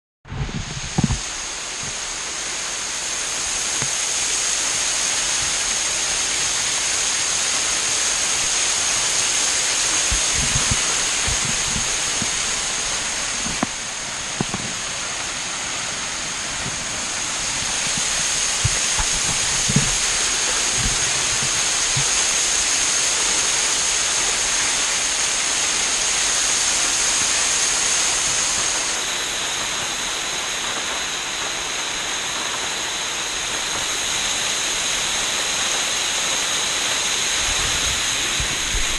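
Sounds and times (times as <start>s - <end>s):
waterfall pouring: 0.3s - 38.9s.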